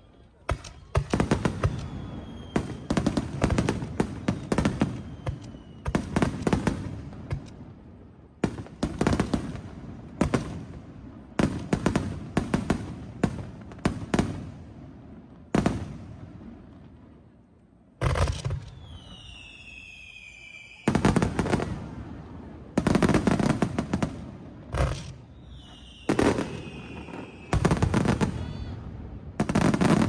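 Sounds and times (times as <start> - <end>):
fireworks bursting with bangs: 0.3 - 17.4, 18.0 - 30.0.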